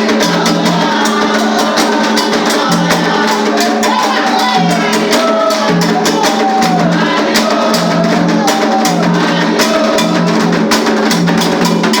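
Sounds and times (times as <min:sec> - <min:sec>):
rapid drumming: 0:00.0 - 0:12.0
voices singing a melody: 0:00.0 - 0:12.0.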